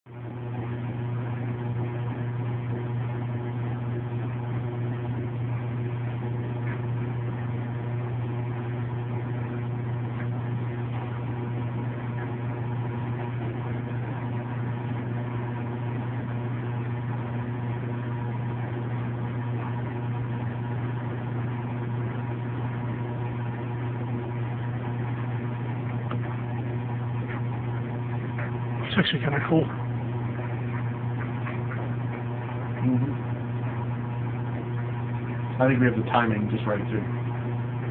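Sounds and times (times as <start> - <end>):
steady low hum: 0.1 - 37.9.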